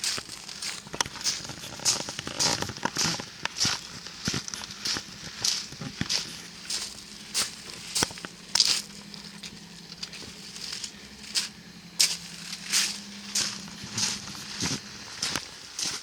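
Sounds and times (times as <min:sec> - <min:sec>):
footsteps crunching on gravel: 0:00.0 - 0:16.0.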